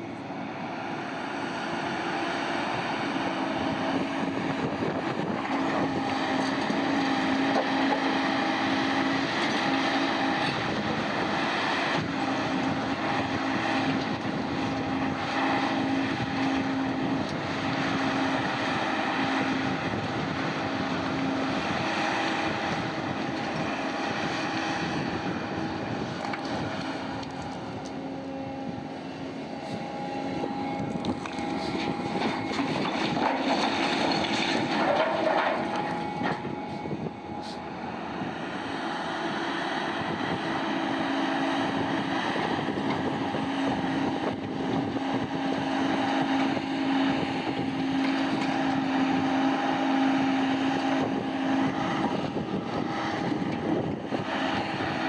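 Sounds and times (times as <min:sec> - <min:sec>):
heavy diesel machinery drone: 0:00.0 - 0:55.0.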